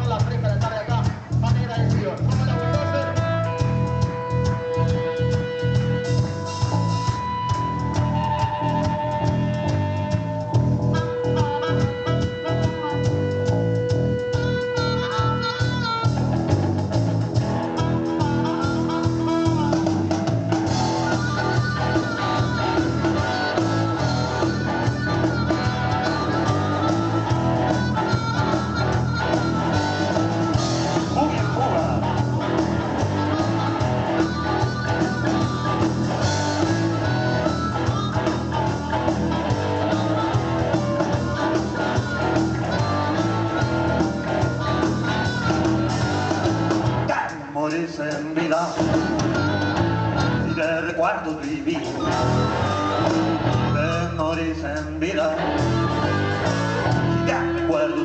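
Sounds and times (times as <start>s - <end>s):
guitar: 0.0s - 58.0s
live band playing: 0.0s - 58.0s.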